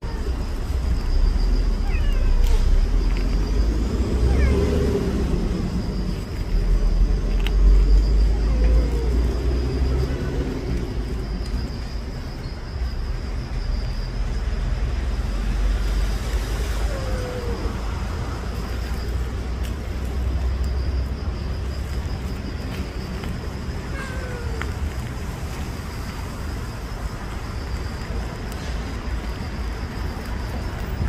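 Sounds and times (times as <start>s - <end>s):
low rumble of road traffic: 0.0s - 31.0s.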